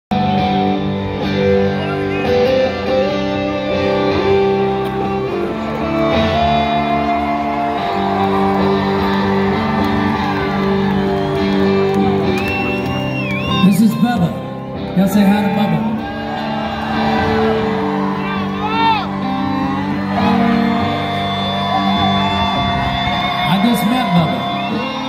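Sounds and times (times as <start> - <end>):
electric guitars bending notes: 0.1 - 25.0
live rock band playing: 0.1 - 25.0.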